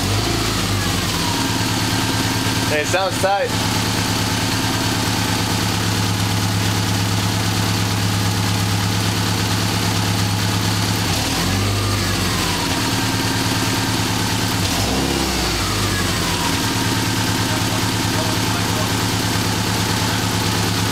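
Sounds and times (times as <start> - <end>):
car engine idling: 0.0 - 20.9
engine throttle blips: 0.0 - 20.9.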